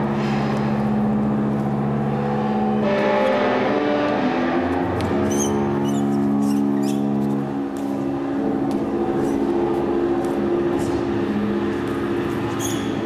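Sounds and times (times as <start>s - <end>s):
low droning tones: 0.0s - 13.0s.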